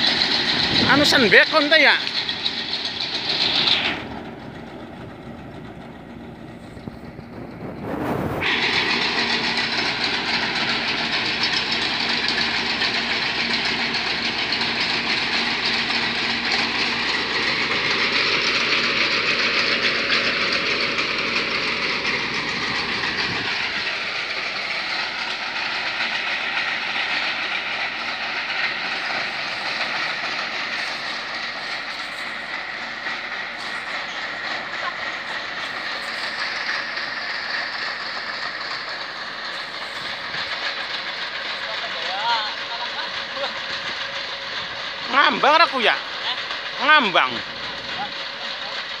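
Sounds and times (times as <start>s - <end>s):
excavator diesel engine and tracks: 0.0s - 49.0s.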